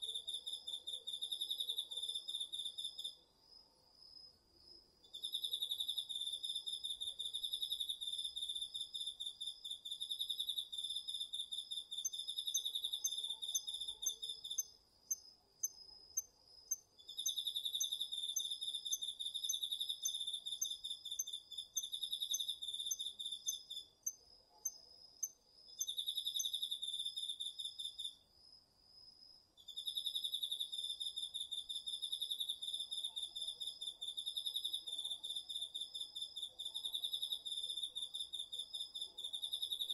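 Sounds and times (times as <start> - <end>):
high continuous insect trill: 0.0 - 39.9.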